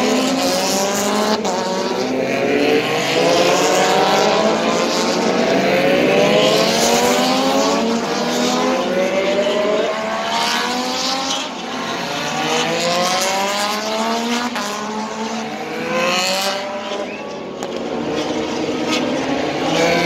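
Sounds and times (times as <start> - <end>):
racing motorcycles accelerating: 0.0 - 20.0.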